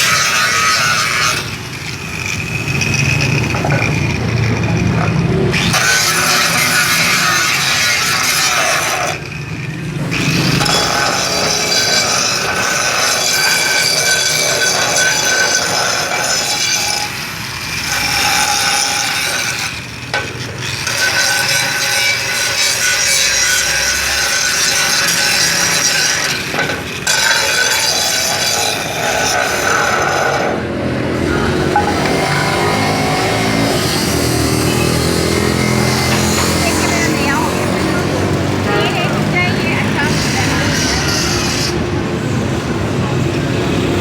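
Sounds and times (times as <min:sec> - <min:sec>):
grinder grinding metal: 0:00.0 - 0:44.0.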